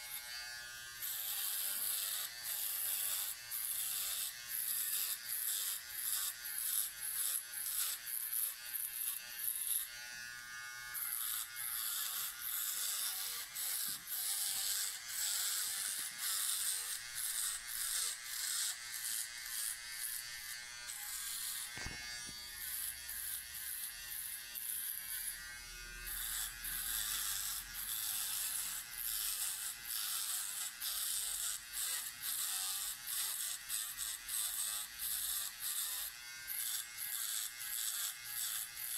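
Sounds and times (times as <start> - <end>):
electric shaver on hair: 0.0 - 38.9.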